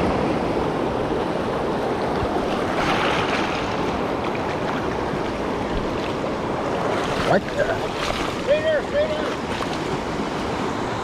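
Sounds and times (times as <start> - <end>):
river water flowing over rocks: 0.0 - 11.0.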